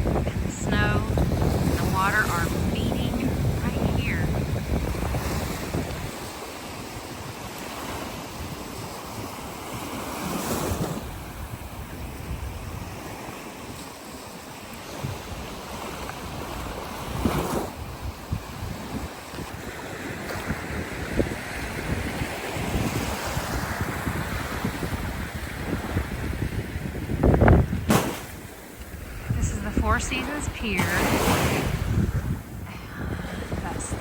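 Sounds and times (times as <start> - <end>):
surf washing onto beach: 0.0 - 34.0
wind buffeting microphone: 0.0 - 34.0.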